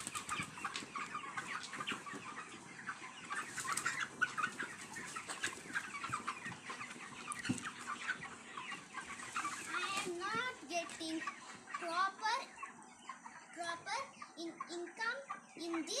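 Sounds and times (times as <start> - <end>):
chickens peeping and clucking: 0.0 - 16.0.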